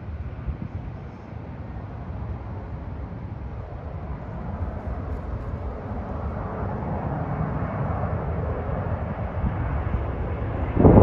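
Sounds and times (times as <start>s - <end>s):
jet airliner engine: 0.0s - 11.0s.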